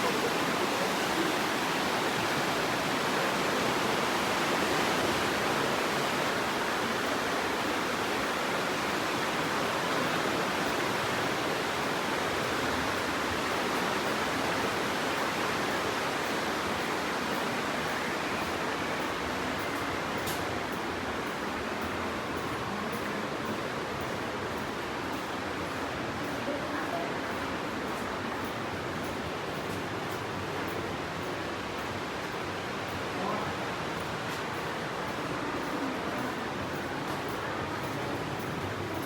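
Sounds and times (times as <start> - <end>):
river rushing through gorge: 0.0 - 39.0.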